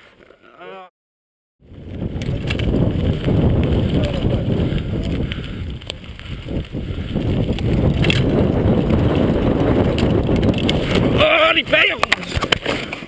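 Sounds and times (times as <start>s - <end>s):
wind buffeting microphone: 1.6s - 12.5s
bike rattling: 1.6s - 13.0s
bike tyres rumbling on dirt: 1.6s - 13.0s.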